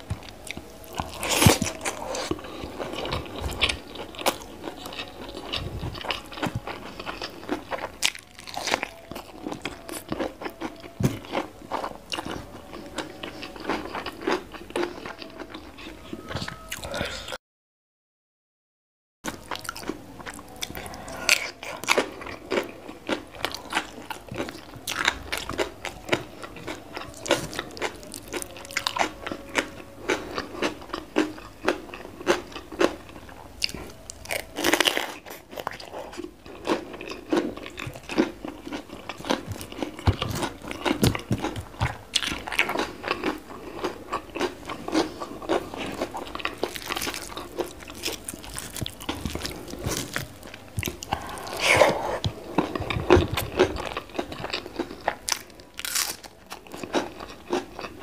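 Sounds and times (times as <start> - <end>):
crunchy chewing of raw vegetables: 0.0 - 17.3, 19.3 - 58.0.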